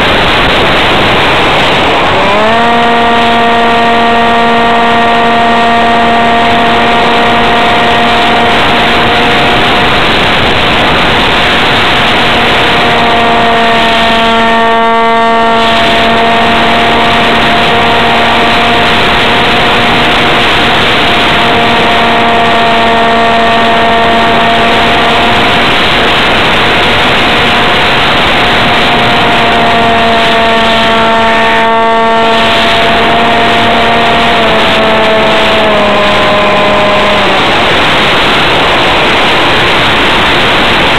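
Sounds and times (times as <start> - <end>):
electric motor and propeller whining: 0.0 - 40.9
wind rush over microphone: 0.0 - 40.9.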